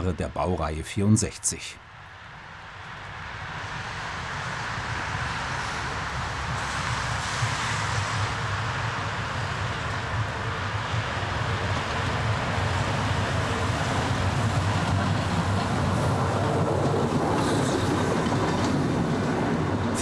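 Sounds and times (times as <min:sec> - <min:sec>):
steam locomotive exhaust beats: 0:03.7 - 0:20.0.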